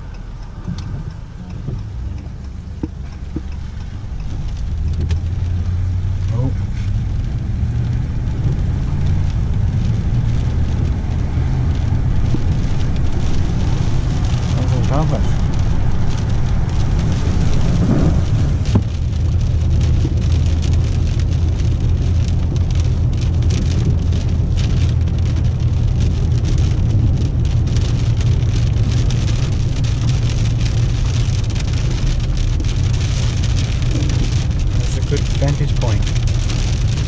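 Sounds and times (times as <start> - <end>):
heavy rain on car roof: 0.0 - 37.0
moving car rumble: 0.0 - 37.0.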